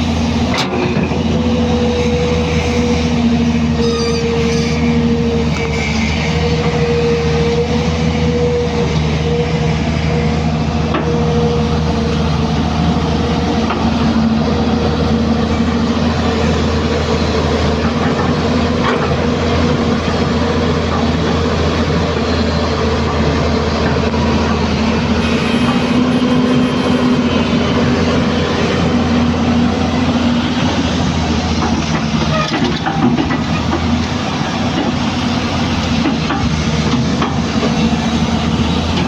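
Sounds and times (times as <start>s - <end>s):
excavator engine rumbling: 0.0s - 39.0s
hydraulic whining hum: 0.0s - 39.0s.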